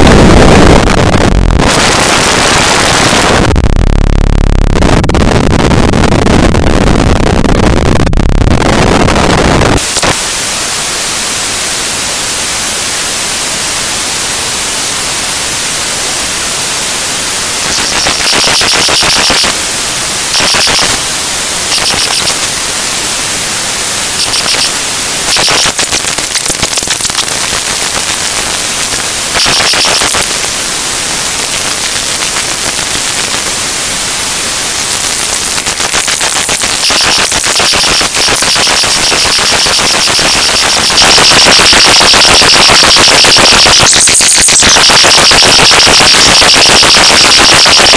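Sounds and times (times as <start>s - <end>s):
crackling static buzz: 0.0s - 47.9s
static hiss: 0.0s - 47.9s.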